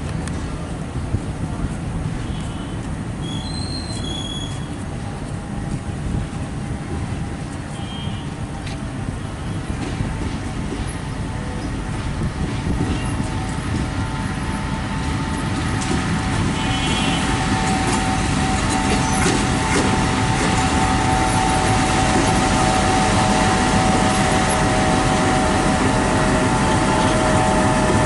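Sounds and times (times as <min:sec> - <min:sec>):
locomotive whine and rumble: 0:00.0 - 0:28.0.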